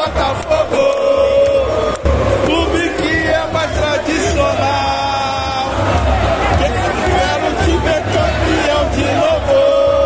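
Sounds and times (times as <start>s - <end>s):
crowd noise: 0.0s - 10.0s
loud music with singing: 0.0s - 10.0s.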